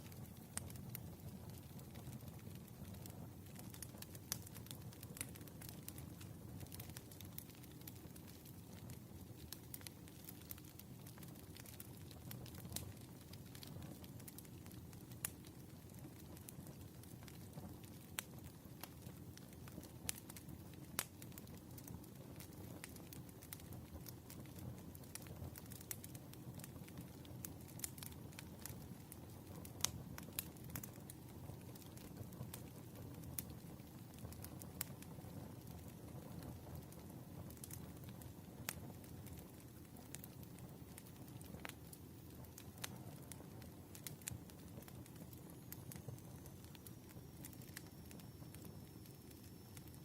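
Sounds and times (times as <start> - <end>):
low rumble of burning logs: 0.0 - 50.0
wood fire crackling and popping: 0.0 - 50.0.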